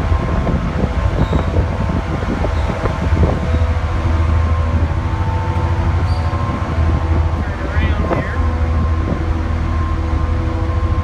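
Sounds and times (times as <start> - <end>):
machinery hum: 0.0 - 11.0
ship engines droning: 0.0 - 11.0.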